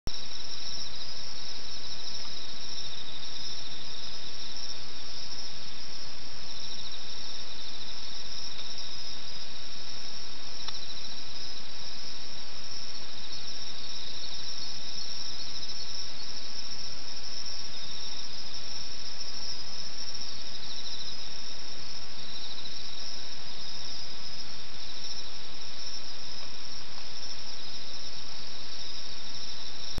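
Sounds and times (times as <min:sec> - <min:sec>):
insects trilling: 0:00.1 - 0:30.0
lower pulsing insect trill: 0:00.1 - 0:30.0.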